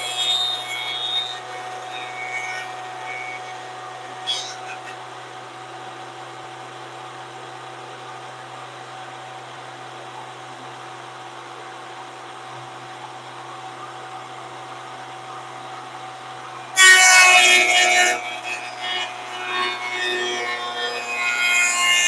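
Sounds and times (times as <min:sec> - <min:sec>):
planer cutting whine: 0:00.0 - 0:08.9, 0:11.7 - 0:22.0
thickness planer humming: 0:00.0 - 0:09.8, 0:11.6 - 0:22.0.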